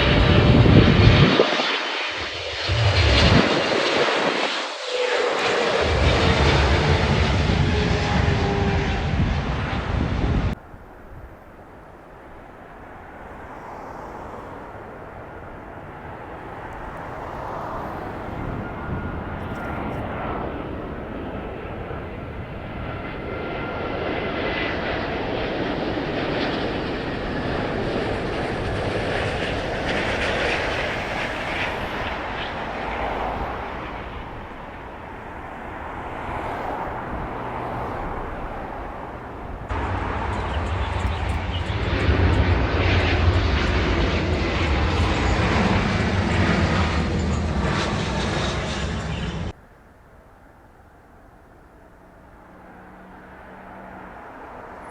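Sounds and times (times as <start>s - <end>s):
jet airliner passing overhead: 0.0s - 54.9s
jet engine whine: 0.0s - 54.9s.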